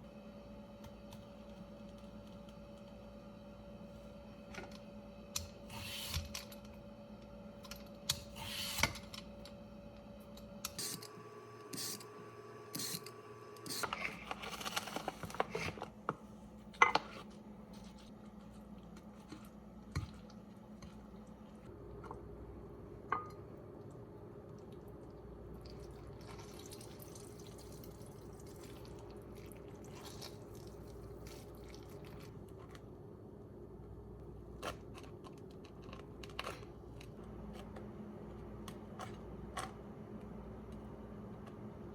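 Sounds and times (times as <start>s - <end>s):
low appliance hum: 0.0s - 41.9s.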